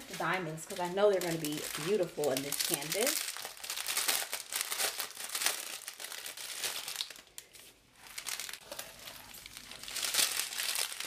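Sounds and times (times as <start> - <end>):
plastic film crinkling: 0.0 - 11.0.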